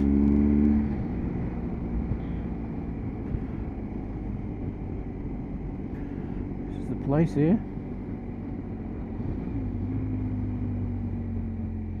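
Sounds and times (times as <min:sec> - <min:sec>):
motorcycle engine: 0:00.0 - 0:12.0
wind and road noise: 0:00.0 - 0:12.0.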